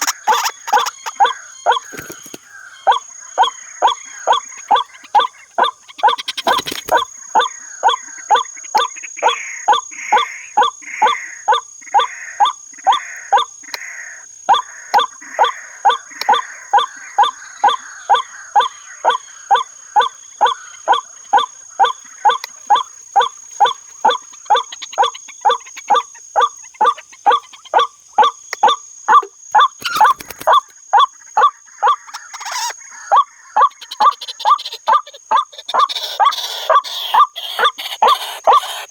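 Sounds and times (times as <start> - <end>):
waterhen nasal calls: 0.0 - 38.9.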